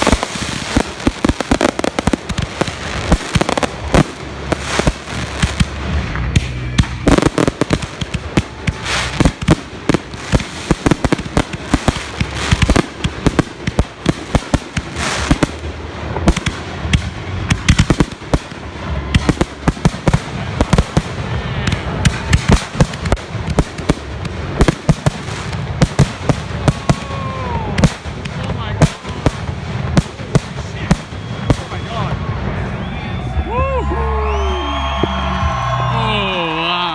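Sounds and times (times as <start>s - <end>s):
firework bangs: 0.0s - 32.8s
firework crackle: 0.0s - 32.9s.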